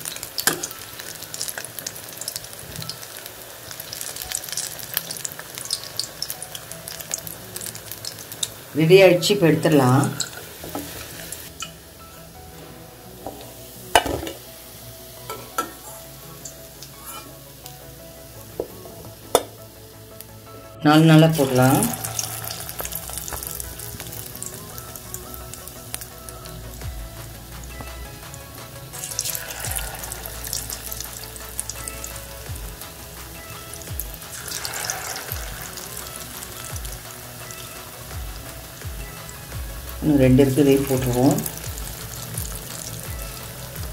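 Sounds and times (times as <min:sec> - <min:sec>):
hot oil sizzling: 0:00.0 - 0:43.9.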